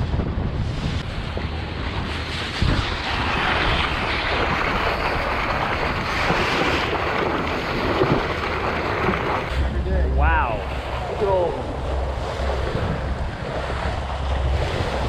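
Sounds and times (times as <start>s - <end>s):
seawater splashing around boat: 0.0s - 15.0s
wind buffeting microphone: 0.0s - 15.0s.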